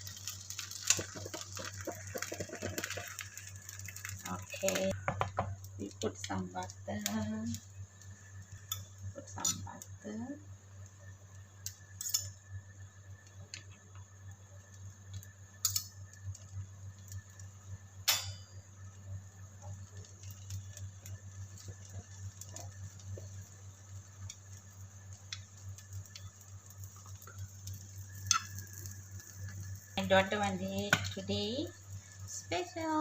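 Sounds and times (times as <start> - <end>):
batter sizzling on a pan: 0.0 - 33.0.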